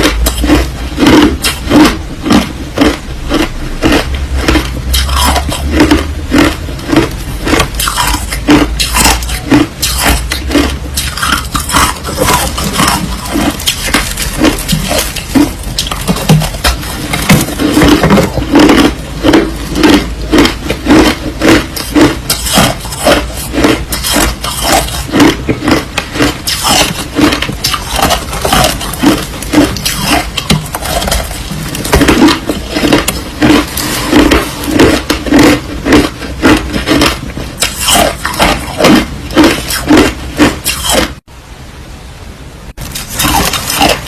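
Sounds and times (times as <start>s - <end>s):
crushed ice being chewed: 0.0s - 41.2s, 42.9s - 44.0s.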